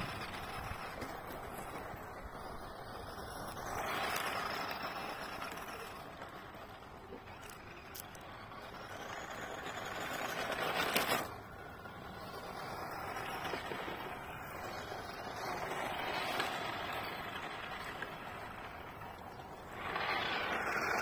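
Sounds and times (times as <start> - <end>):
toy car motor whirring: 0.0 - 21.0
tyres crunching on gravel: 0.0 - 21.0.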